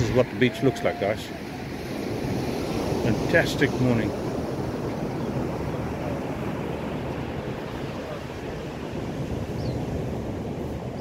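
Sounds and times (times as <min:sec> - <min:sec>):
ocean surf: 0:00.0 - 0:11.0
wind: 0:00.0 - 0:11.0.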